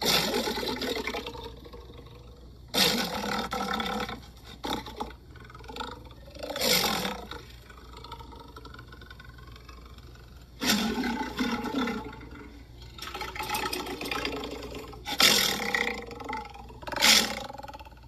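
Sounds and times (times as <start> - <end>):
lions roaring: 0.0 - 18.0.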